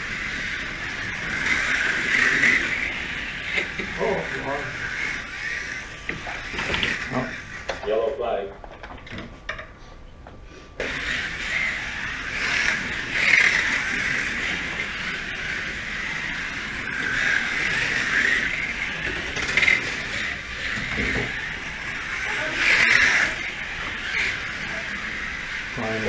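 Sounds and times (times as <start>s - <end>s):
small racing cars whining: 0.0s - 9.3s, 10.7s - 26.0s.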